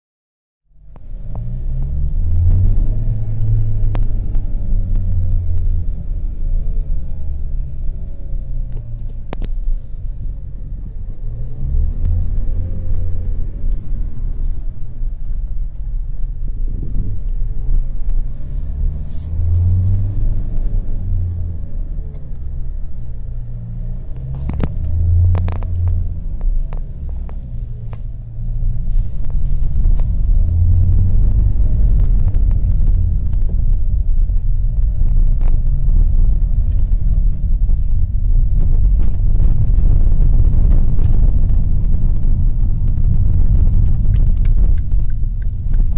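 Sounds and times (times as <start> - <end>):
diesel car engine drone: 0.7 - 45.9.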